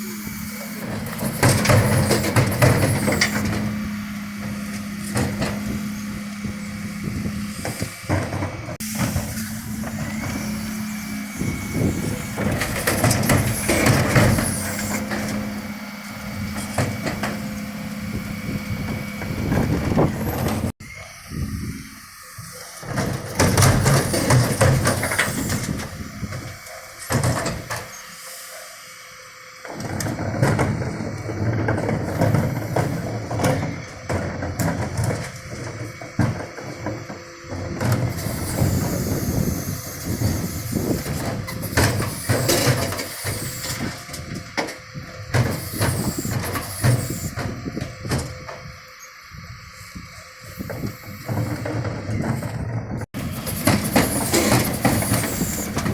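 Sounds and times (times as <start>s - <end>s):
refuse truck engine humming: 0.0s - 55.9s
wheelie bins knocking and clattering: 0.7s - 10.8s, 11.4s - 20.7s, 22.8s - 28.0s, 29.7s - 39.6s, 40.2s - 48.7s, 50.6s - 55.9s.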